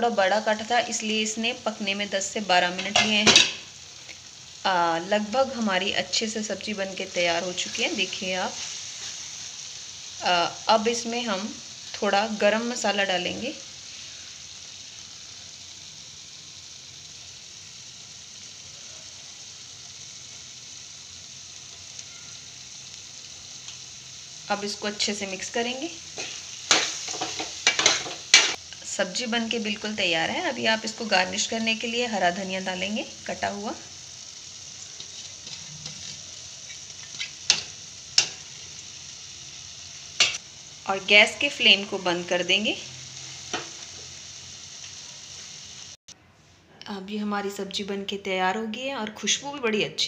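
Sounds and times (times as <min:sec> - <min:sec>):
vegetables sizzling in a pan: 0:00.0 - 0:46.1.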